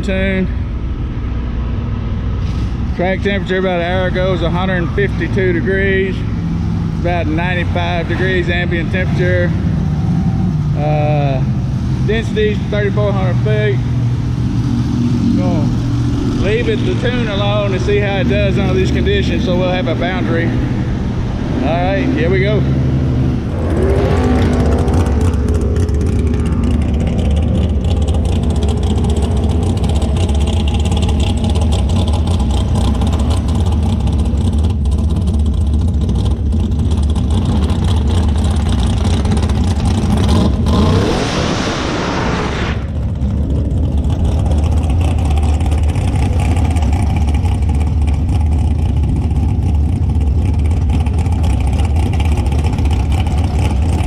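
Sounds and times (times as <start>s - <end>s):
race car engine running: 0.0s - 54.0s.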